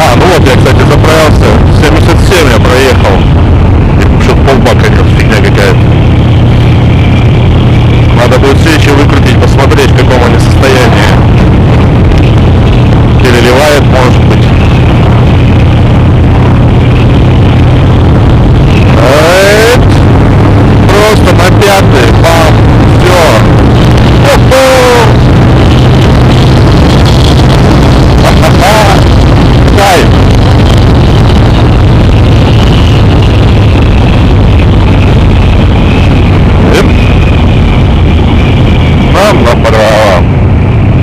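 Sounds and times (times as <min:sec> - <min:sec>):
motorcycle engine drone: 0:00.0 - 0:41.0
wind noise: 0:00.0 - 0:41.0.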